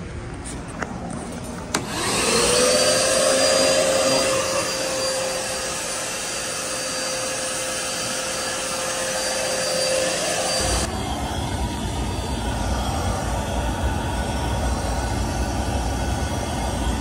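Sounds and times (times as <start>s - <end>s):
shop vacuum motor whining: 1.6s - 17.0s.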